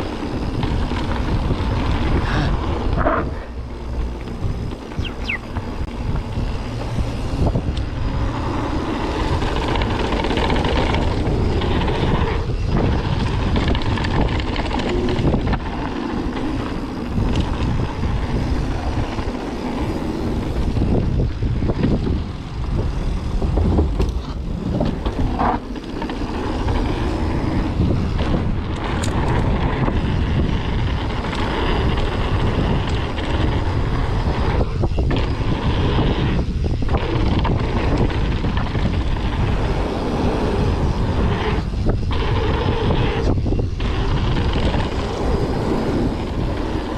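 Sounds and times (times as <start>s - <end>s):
bike tyres and frame rattling: 0.0s - 46.9s
sharp clicks from bumps: 0.0s - 46.9s
wind rushing over microphone: 0.0s - 46.9s.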